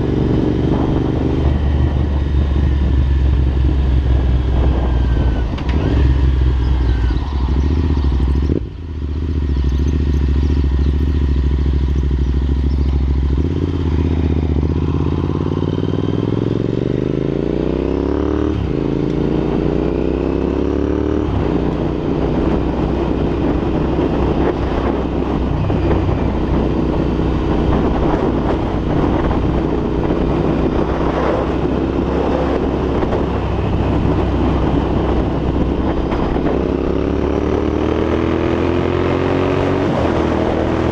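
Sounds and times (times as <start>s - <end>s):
motorcycle engine revving: 0.0s - 40.9s
wind buffeting microphone: 0.0s - 40.9s.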